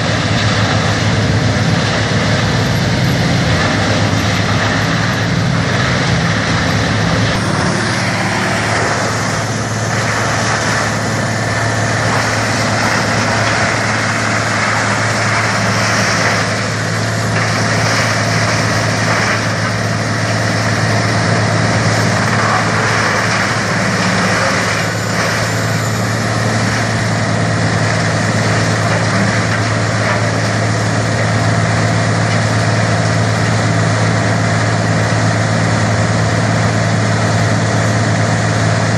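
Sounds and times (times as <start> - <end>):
grinder machine running: 0.0 - 38.9.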